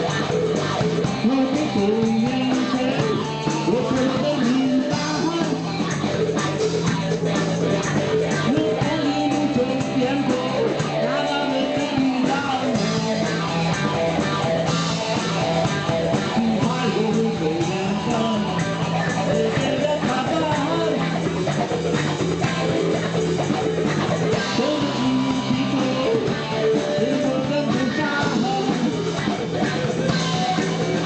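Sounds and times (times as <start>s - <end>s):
electric guitar lines: 0.0s - 31.0s
repeating bass line: 0.0s - 31.0s.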